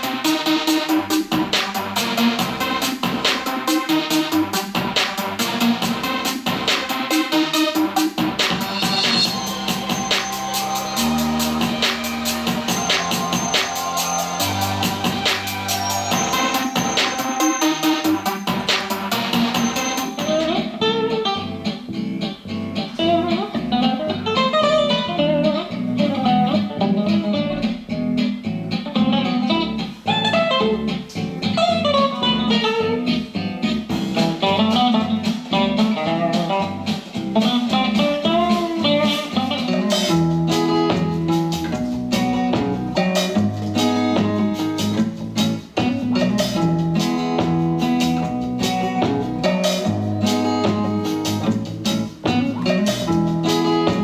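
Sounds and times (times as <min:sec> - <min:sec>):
blues guitar music through speaker: 0:00.0 - 0:54.0
drums: 0:00.0 - 0:54.0.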